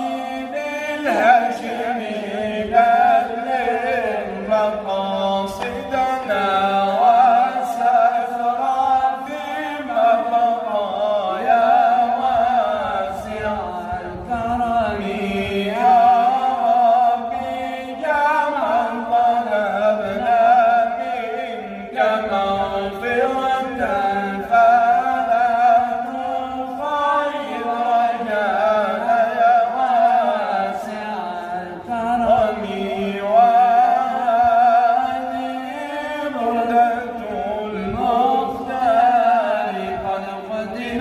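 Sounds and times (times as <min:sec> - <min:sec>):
man chanting: 0:00.0 - 0:41.0.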